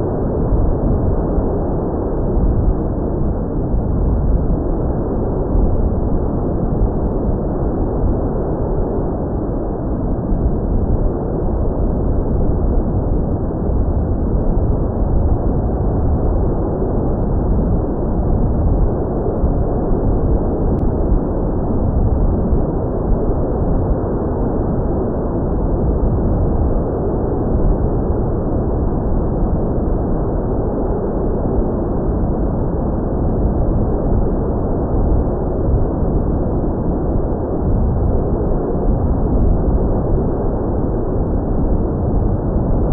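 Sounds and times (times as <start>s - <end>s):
wind noise on microphone: 0.0s - 42.9s.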